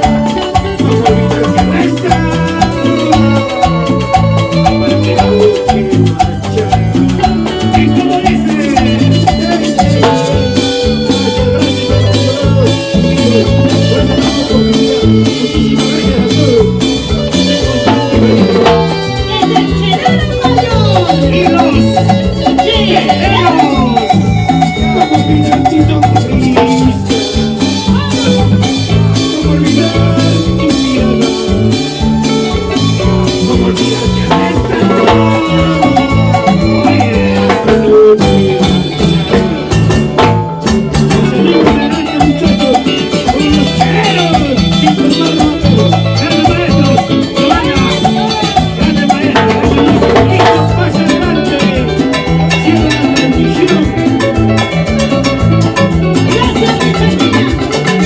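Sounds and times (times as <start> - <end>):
salsa band playing: 0.0 - 58.0.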